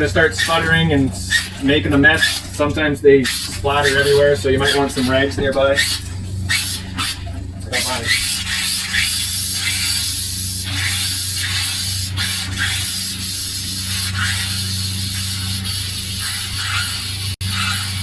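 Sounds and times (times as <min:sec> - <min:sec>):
steady low hum: 0:00.0 - 0:18.0
water tap spitting and sputtering: 0:00.0 - 0:18.0.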